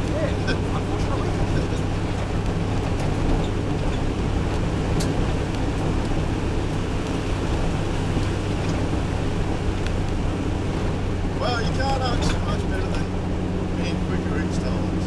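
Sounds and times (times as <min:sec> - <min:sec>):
rally car engine running: 0:00.0 - 0:15.0
tyre and road noise: 0:00.0 - 0:15.0.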